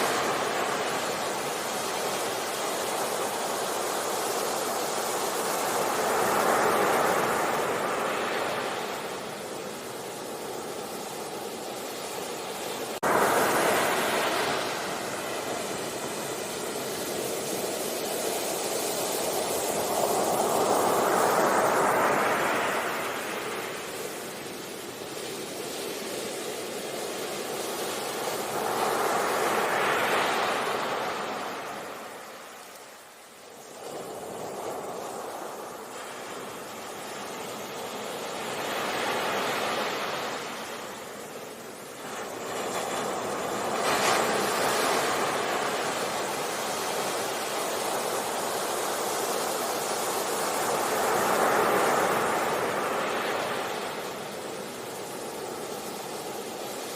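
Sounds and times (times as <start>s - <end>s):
sea waves breaking on a beach: 0.0s - 56.9s.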